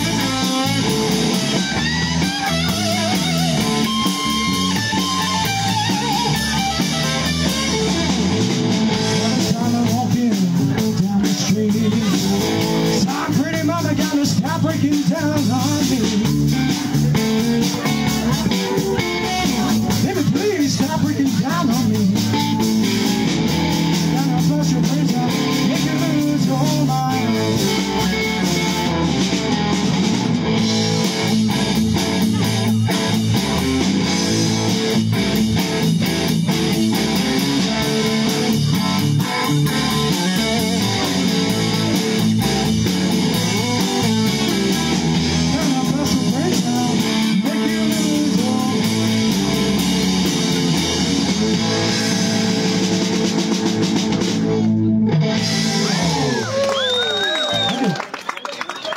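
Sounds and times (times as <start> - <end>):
drum kit beat: 0.0 - 57.0
electric guitar lead: 0.0 - 57.9.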